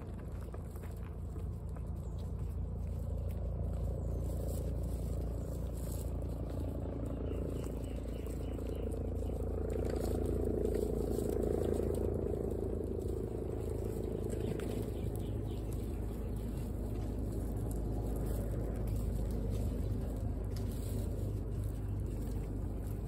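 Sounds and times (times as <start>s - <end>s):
guinea pigs crunching pellets: 0.0s - 23.0s
steady low hum: 0.0s - 23.0s.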